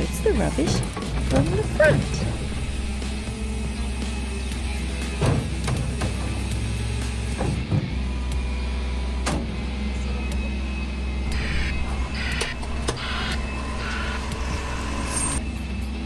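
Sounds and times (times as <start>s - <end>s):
garbage truck engine running: 0.0s - 10.0s, 11.0s - 15.6s.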